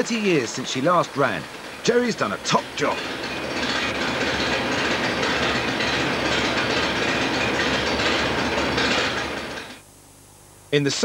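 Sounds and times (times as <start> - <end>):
locomotive engine clattering: 0.0 - 9.8.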